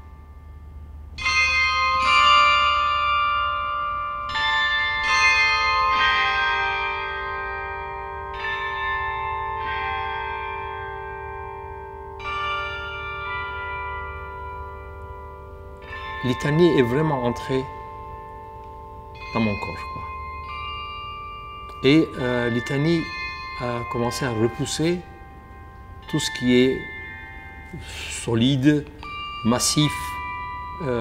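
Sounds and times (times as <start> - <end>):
bells ringing at different pitches: 0.0 - 31.0.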